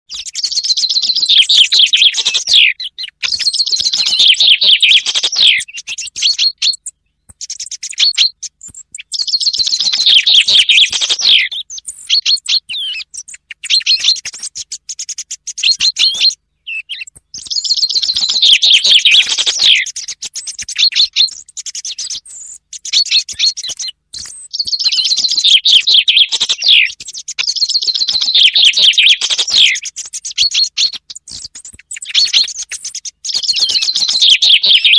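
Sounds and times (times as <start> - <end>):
chaffinch song trill: 0.1 - 34.9.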